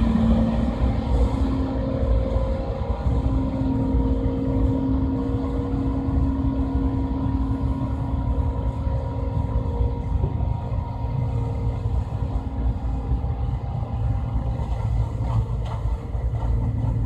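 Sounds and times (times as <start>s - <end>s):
combine harvester engine rumble: 0.0s - 17.0s
machinery humming whine: 0.0s - 17.0s.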